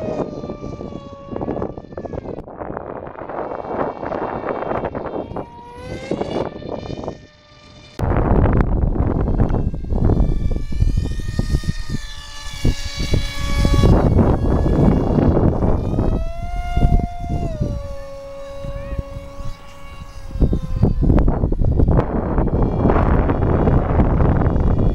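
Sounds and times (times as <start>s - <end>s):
wind buffeting microphone: 0.0s - 7.4s, 8.0s - 24.9s
model jet motor whine: 0.0s - 24.9s.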